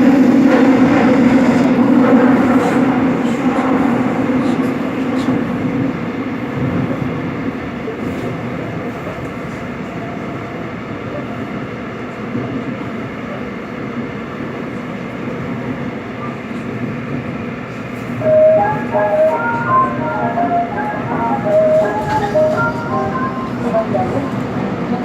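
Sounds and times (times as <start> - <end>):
subway train wheels rumbling: 0.0 - 25.0.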